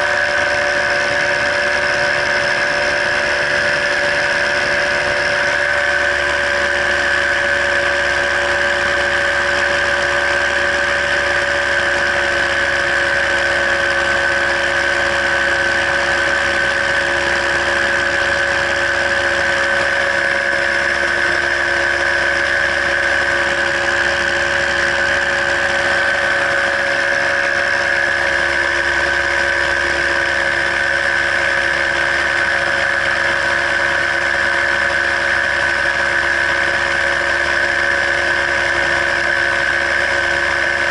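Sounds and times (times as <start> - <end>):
paramotor engine drone: 0.0 - 40.9.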